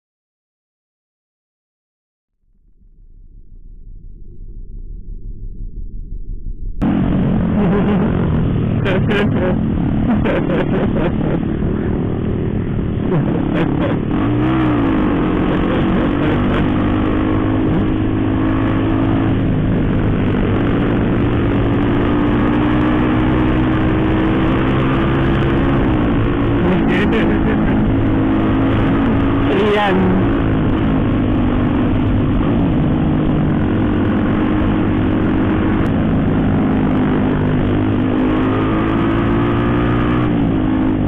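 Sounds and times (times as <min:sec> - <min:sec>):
motorcycle engine running: 0:03.0 - 0:41.0
wind rushing on microphone: 0:06.8 - 0:41.0.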